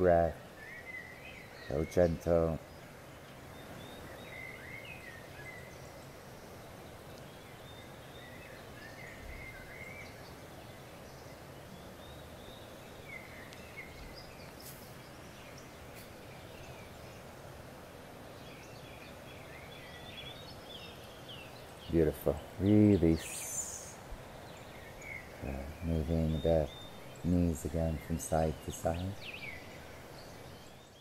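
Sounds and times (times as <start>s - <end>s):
birds chirping: 0.0s - 31.0s
low background hiss: 0.0s - 31.0s.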